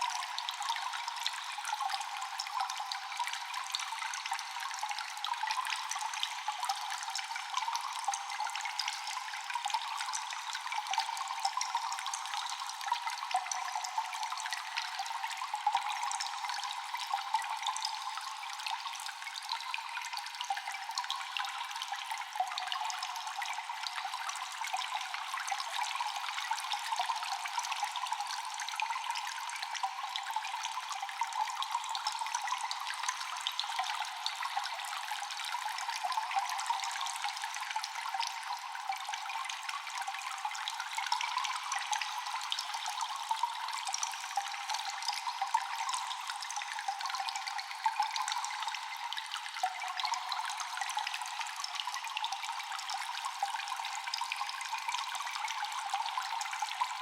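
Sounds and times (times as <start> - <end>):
water dripping with echo: 0.0 - 57.0.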